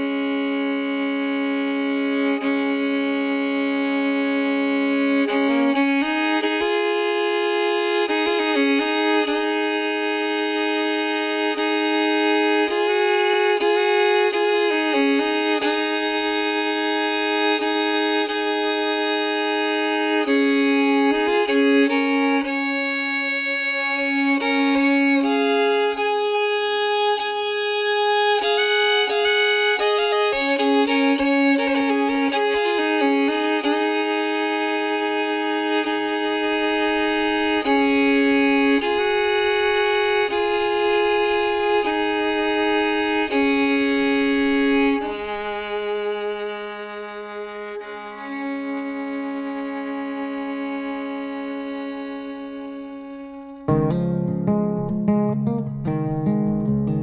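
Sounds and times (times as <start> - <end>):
fiddle playing slow melody: 0.0 - 57.0.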